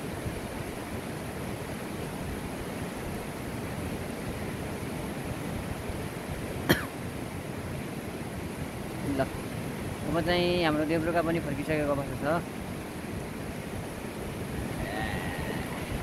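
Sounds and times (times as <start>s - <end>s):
river rapids over boulders: 0.0s - 16.0s.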